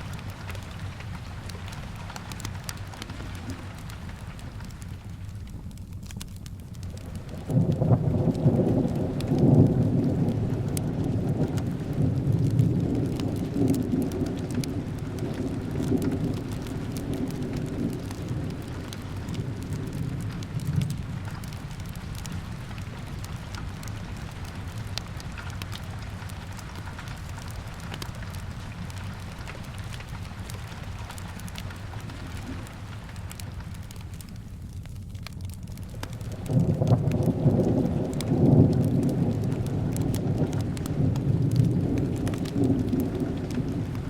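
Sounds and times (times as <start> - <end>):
thunder rumbling: 0.0 - 5.4, 6.8 - 34.3, 35.4 - 44.0
steady rain: 0.0 - 44.0.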